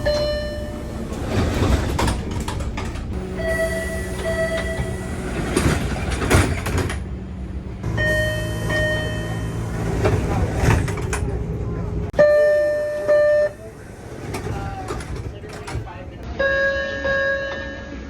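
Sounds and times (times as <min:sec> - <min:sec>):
subway car rumble: 0:00.0 - 0:18.0.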